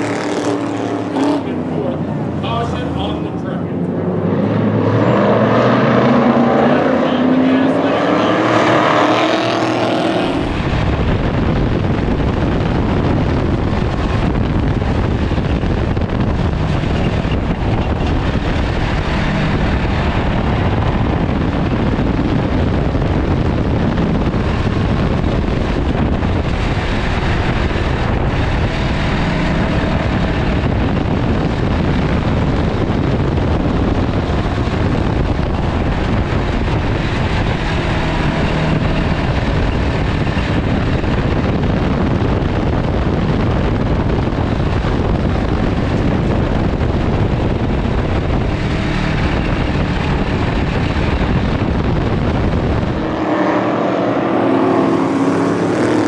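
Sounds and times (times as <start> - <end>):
chassis rumble: 0.0 - 56.0
race car engine running hard: 0.0 - 56.0
wind rushing: 0.0 - 56.0.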